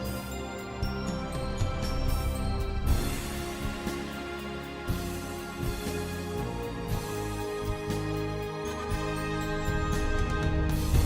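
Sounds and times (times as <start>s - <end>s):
orchestral film music: 0.0s - 11.0s.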